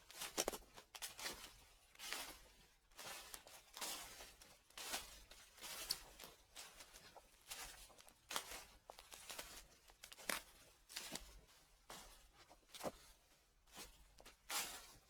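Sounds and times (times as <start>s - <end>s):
footsteps on dry leaves: 0.2s - 13.1s, 13.7s - 15.0s.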